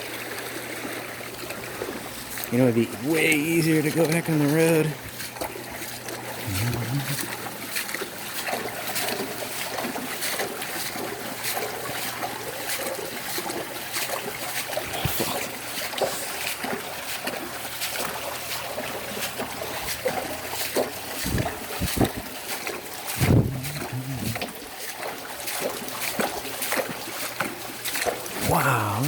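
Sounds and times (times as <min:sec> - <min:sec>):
rain drops patter and splashes: 0:00.0 - 0:29.0
rushing water: 0:00.0 - 0:29.0.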